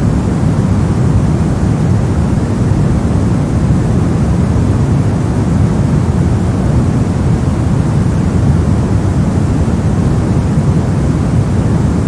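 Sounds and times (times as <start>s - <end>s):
low rumbling white noise: 0.0s - 12.0s.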